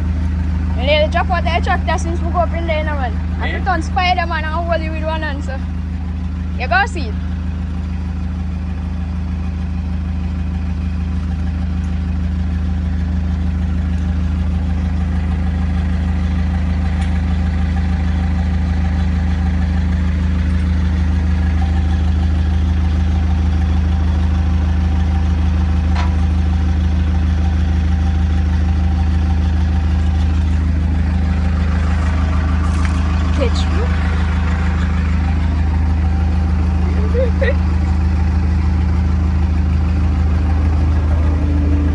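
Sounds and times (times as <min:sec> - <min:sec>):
large vehicle engine humming: 0:00.0 - 0:41.9.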